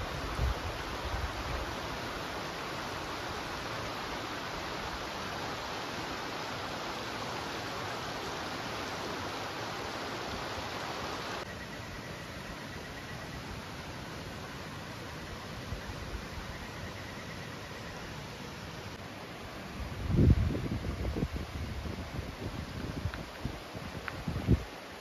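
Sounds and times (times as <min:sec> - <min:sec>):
river babbling: 0:00.0 - 0:25.0.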